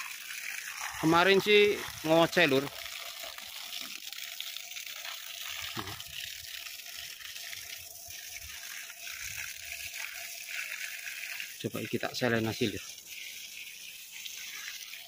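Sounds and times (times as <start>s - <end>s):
garden hose spraying water: 0.0s - 15.0s.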